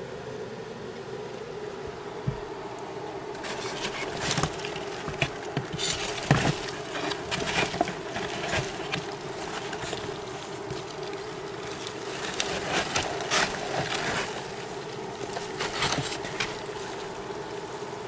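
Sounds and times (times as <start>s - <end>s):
steady low hum: 0.0s - 18.0s
dry crackle: 2.3s - 18.0s
cardboard rustling and scraping: 3.4s - 18.0s.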